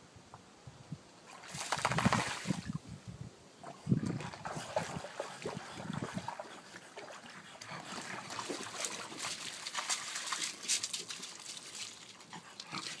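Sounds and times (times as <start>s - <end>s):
dog splashing in shallow water: 1.3s - 2.8s, 3.6s - 13.0s.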